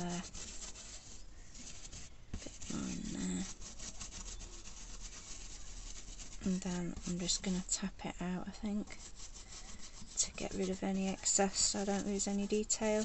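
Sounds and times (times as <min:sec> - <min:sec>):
paintbrush bristles rustling on rubber: 0:00.0 - 0:13.0.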